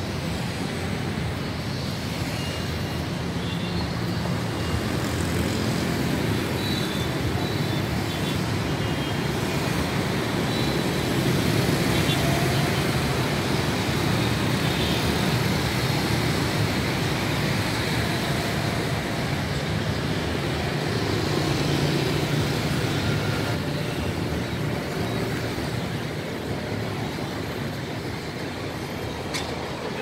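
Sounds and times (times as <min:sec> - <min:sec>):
rumble of road traffic: 0:00.0 - 0:30.0.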